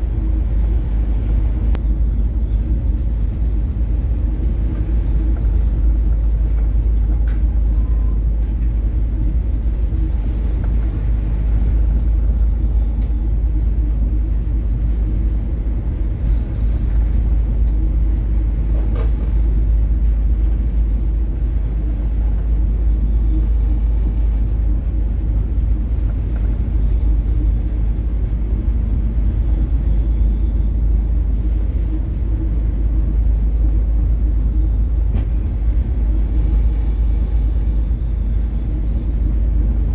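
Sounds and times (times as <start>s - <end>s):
ship engine drone: 0.0s - 39.9s.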